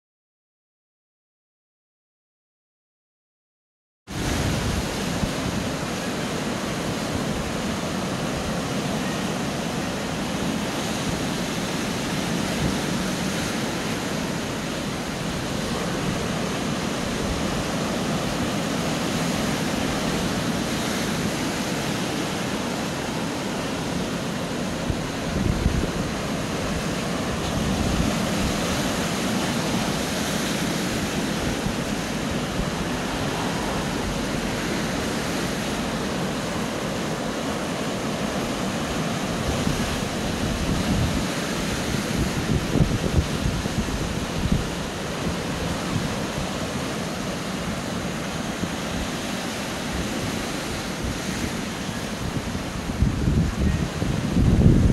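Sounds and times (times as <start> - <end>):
waves breaking over rocks: 4.1 - 54.9.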